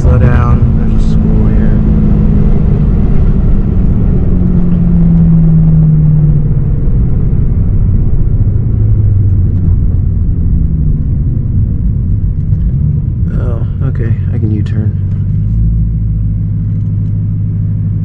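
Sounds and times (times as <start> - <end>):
car engine running: 0.0 - 18.0
road rumble: 0.0 - 18.0.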